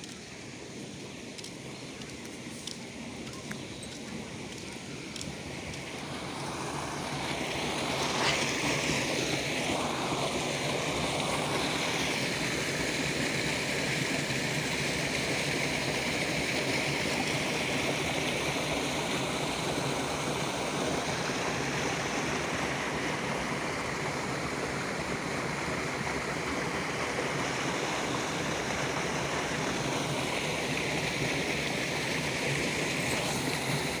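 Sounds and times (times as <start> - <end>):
water rushing from a dam: 0.0 - 34.0.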